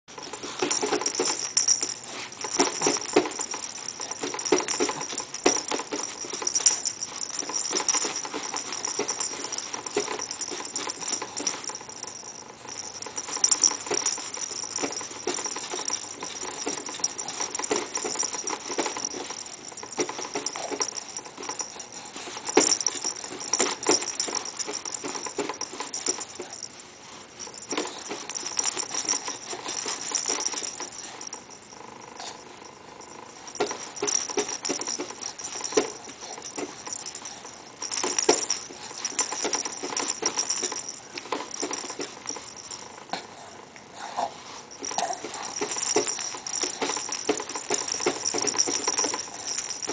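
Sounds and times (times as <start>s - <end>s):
ball toy rattling and jingling: 0.0s - 43.2s, 44.5s - 49.9s
soft rustling and bumping: 0.2s - 26.8s, 27.4s - 42.9s, 44.7s - 49.9s.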